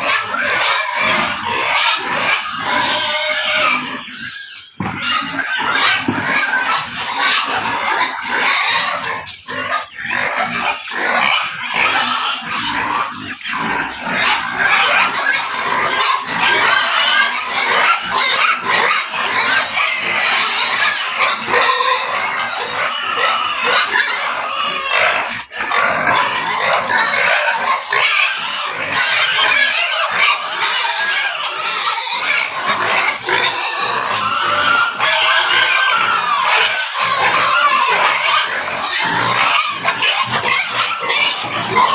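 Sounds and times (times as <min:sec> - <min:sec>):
pigs calling: 0:00.0 - 0:41.9.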